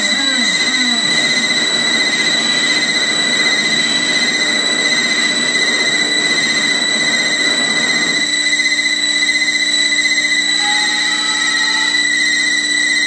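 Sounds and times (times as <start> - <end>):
harsh noise wall: 0.0 - 13.0
lower steady tones: 0.0 - 13.0
piercing high tones: 0.0 - 13.0.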